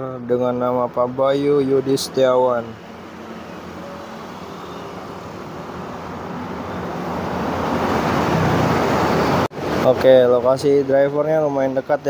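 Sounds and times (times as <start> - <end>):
road vehicle approaching: 0.0 - 12.0.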